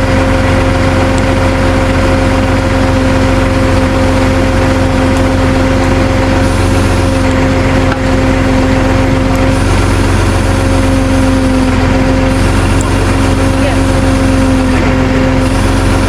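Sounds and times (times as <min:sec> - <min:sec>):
constant whine: 0:00.0 - 0:16.0
truck engine running: 0:00.0 - 0:16.0.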